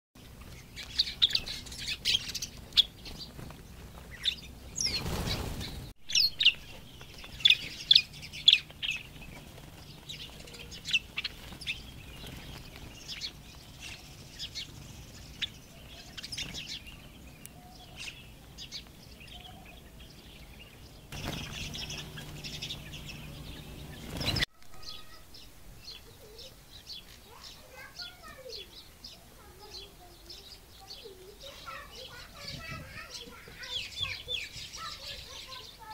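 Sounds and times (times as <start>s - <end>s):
small birds chirping: 0.2s - 35.9s.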